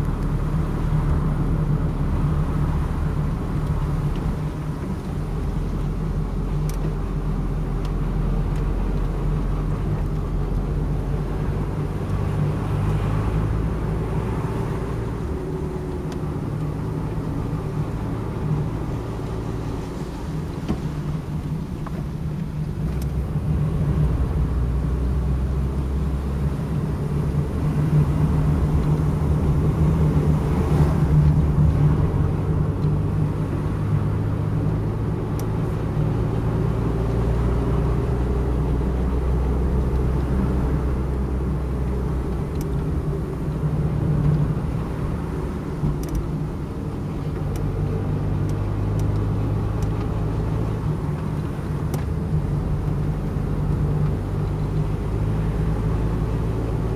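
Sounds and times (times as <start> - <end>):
car engine and tyre drone: 0.0 - 56.9.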